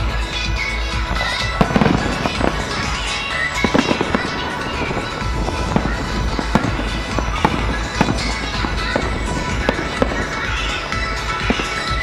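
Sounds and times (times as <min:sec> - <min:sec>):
loud music: 0:00.0 - 0:12.0
firework shells bursting: 0:01.0 - 0:12.0.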